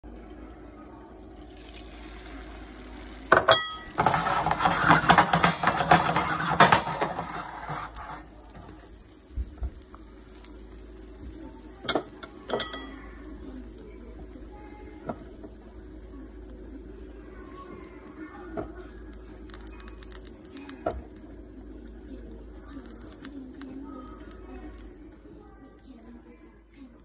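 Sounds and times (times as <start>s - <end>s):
egg mixture sizzling in oil: 0.3s - 27.0s.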